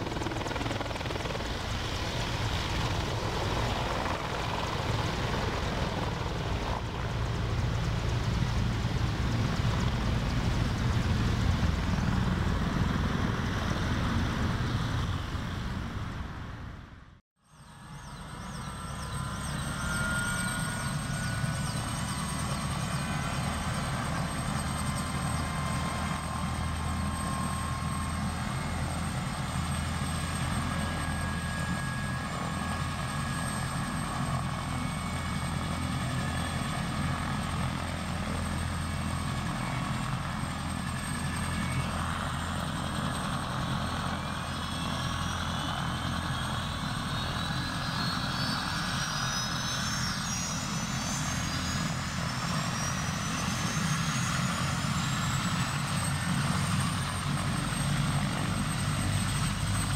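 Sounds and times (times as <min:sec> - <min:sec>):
helicopter turbine engines running: 0:00.0 - 0:59.9.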